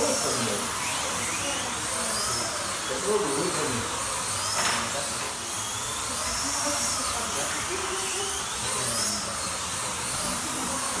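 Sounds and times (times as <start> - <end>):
slot car motors whining: 0.0 - 11.0.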